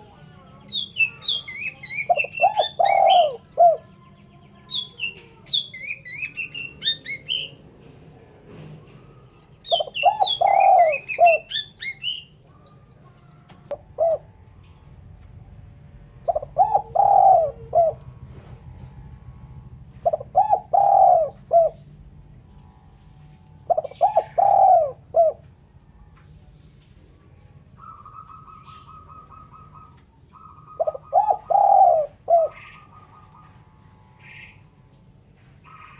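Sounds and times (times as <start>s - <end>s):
dove cooing: 0.0s - 4.0s, 4.7s - 7.6s, 8.6s - 25.9s, 27.6s - 35.9s
small birds chirping: 0.0s - 35.9s.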